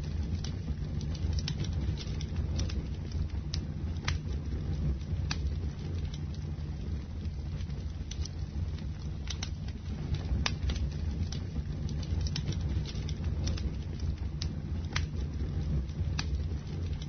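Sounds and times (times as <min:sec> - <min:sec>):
bonfire flames rumbling: 0:00.0 - 0:17.0
burning wood crackles and pops: 0:00.0 - 0:17.0.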